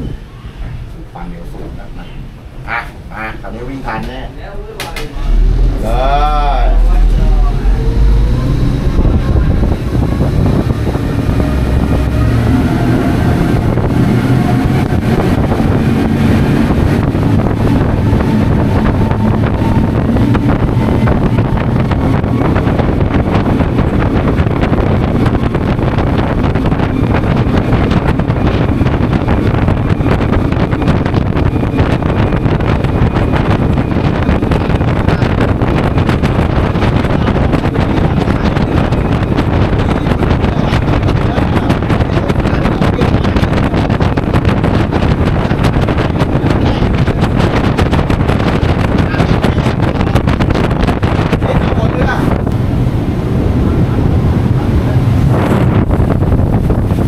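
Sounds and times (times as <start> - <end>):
wind on microphone: 0.0 - 57.0
outboard engines running: 5.0 - 57.0
water rushing past hull: 5.0 - 57.0.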